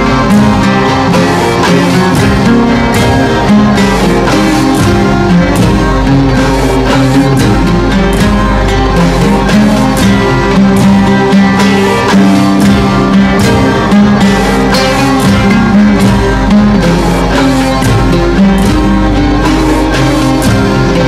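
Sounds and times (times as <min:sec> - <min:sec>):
bowed viola: 0:00.0 - 0:21.0
percussion loop: 0:00.0 - 0:21.0
plucked oud: 0:00.0 - 0:21.0.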